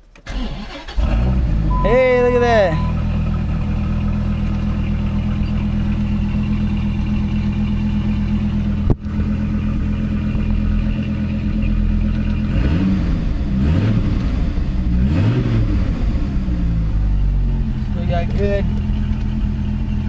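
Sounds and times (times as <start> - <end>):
car engine idling: 0.0 - 20.0
engine revving: 0.3 - 20.0.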